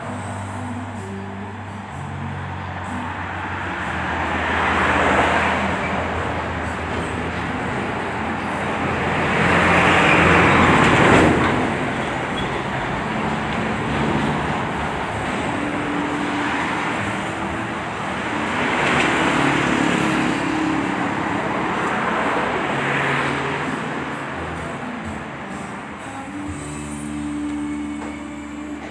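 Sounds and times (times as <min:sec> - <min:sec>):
road traffic passing: 0:00.0 - 0:28.9.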